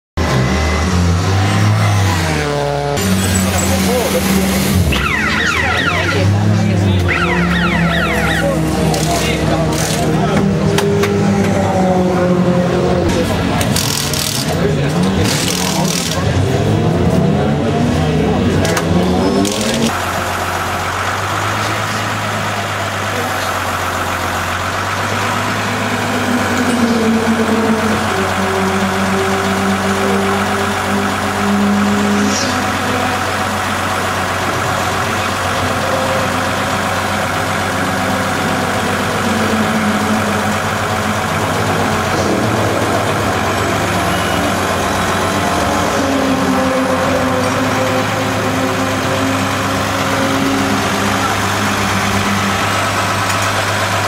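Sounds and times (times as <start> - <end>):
hydraulic crane whine: 0.2 - 54.0
truck engine idling: 3.0 - 16.6, 19.5 - 54.0.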